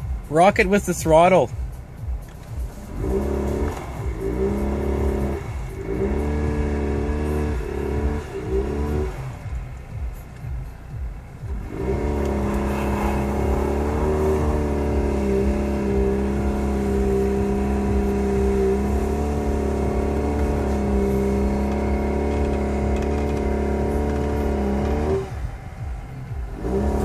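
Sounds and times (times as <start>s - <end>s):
car engine revving high: 2.6s - 27.0s.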